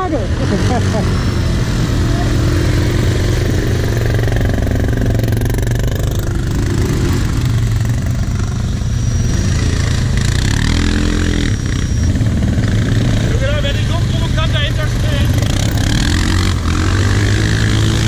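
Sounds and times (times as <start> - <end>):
quad engine idling: 0.0 - 18.0
quad engine revving: 0.0 - 18.0.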